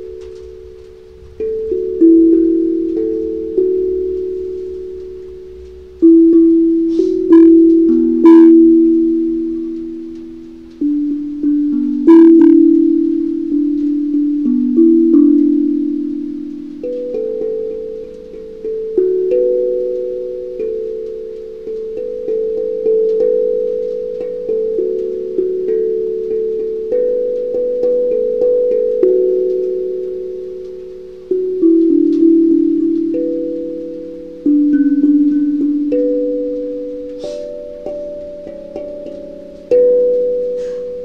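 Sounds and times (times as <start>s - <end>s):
steel tongue drum melody: 0.0s - 41.0s.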